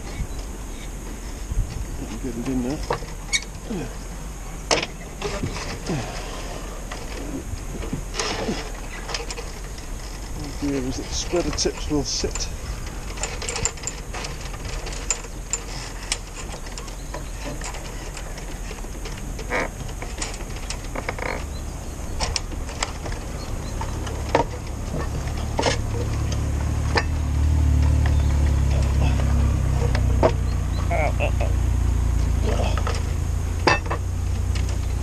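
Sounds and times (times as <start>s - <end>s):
low engine rumble: 0.0s - 35.0s.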